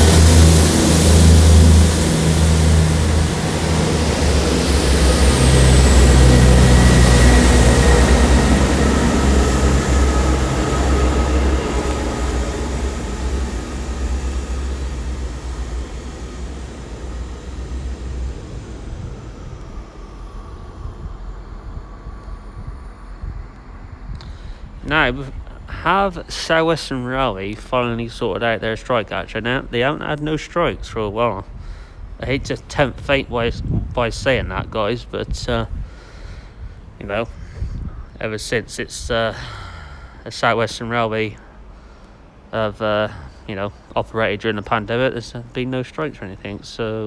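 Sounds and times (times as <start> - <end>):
diesel train pulling out: 0.0 - 47.0.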